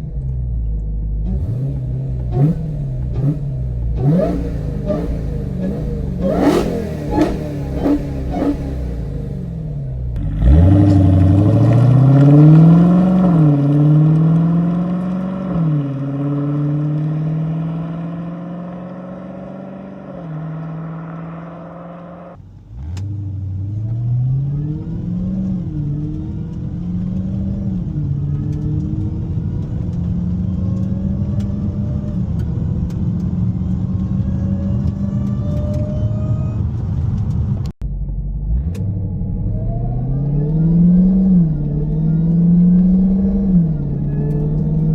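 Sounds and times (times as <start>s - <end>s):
car engine accelerating through gears: 0.0s - 44.9s.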